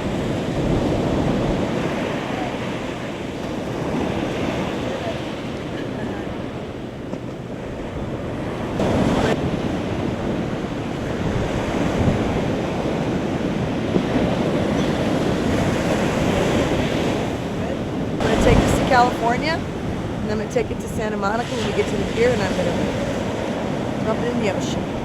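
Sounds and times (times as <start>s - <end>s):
ocean surf washing onto beach: 0.0s - 25.0s
wind rumbling on microphone: 0.0s - 25.0s.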